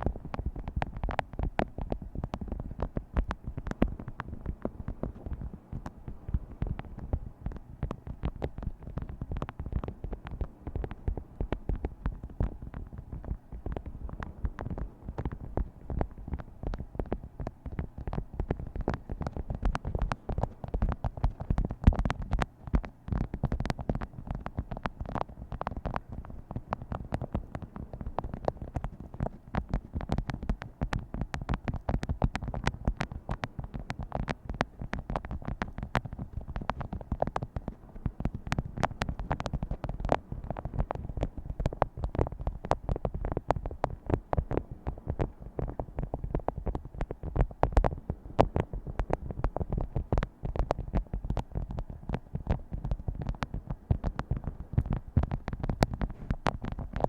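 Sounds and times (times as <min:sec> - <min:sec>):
fingers tapping on objects: 0:00.1 - 0:57.0.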